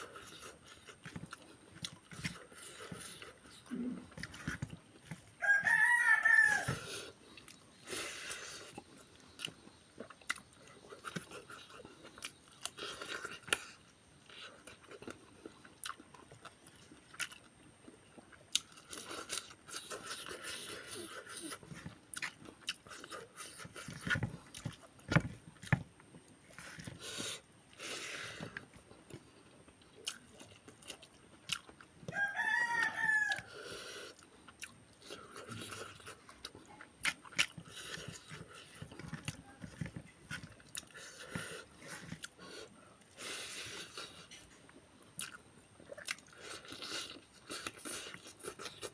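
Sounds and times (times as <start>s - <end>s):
crunching and chewing: 0.0s - 48.9s.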